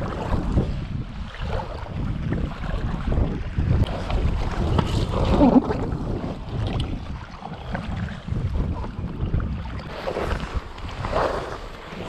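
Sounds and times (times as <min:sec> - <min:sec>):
water splashing and lapping: 0:00.0 - 0:12.0
wind rumbling on microphone: 0:00.0 - 0:12.0.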